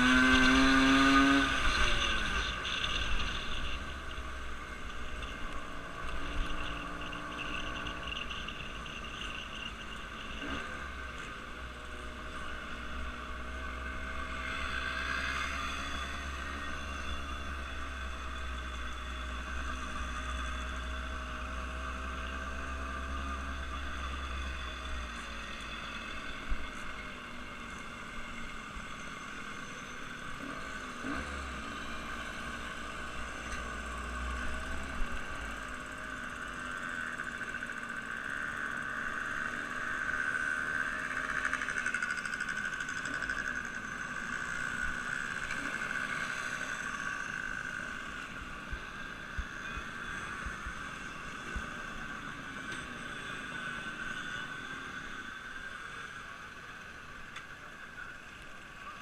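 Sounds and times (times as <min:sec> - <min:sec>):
engine rumbling: 0:00.0 - 0:59.0
faint drifting hum: 0:00.0 - 0:59.0.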